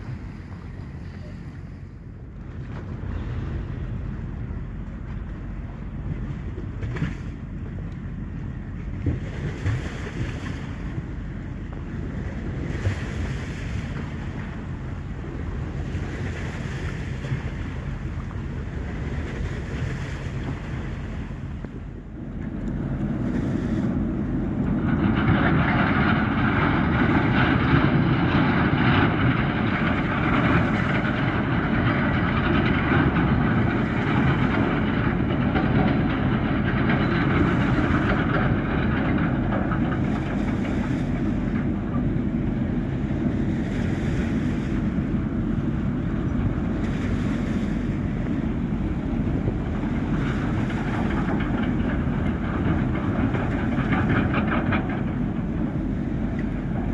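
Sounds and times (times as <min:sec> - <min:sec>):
ferry engines deep rumble: 0:00.0 - 0:56.9.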